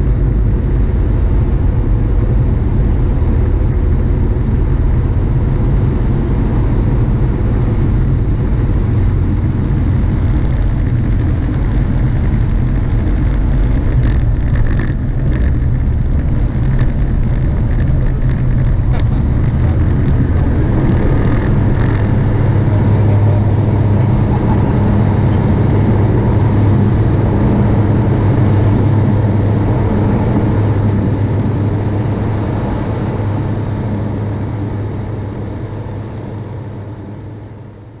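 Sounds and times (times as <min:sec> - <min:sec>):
aircraft engine and propeller droning: 0:00.0 - 0:38.0.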